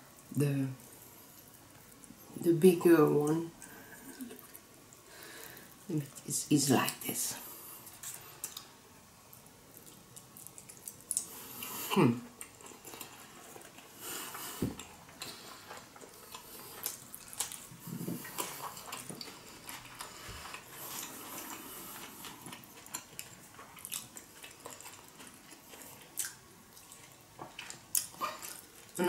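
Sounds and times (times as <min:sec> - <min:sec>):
chewing food: 0:00.1 - 0:02.4, 0:03.1 - 0:29.0.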